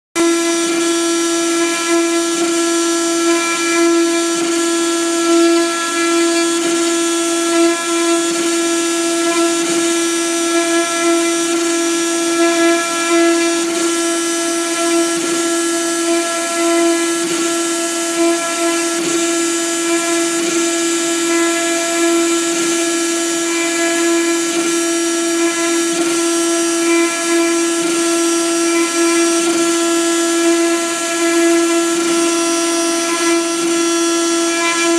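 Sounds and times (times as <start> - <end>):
router spindle high-pitched whine: 0.2 - 34.9.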